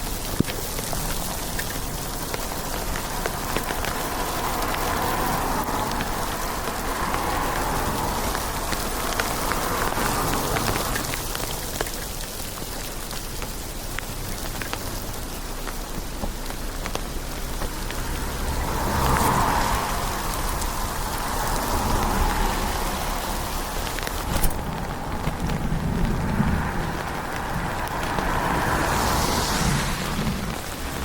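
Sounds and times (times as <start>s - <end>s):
rain drop clicks: 0.0s - 31.0s
steady rain: 0.0s - 31.0s.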